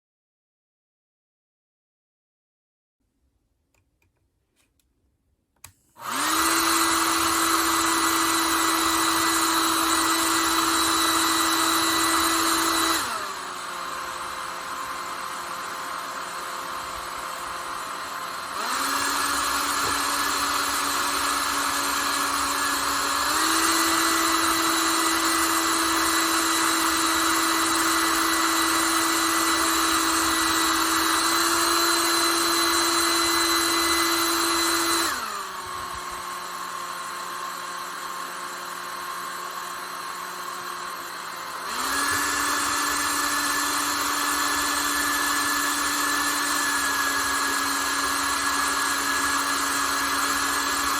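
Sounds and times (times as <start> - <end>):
hair dryer running: 5.6 - 50.9.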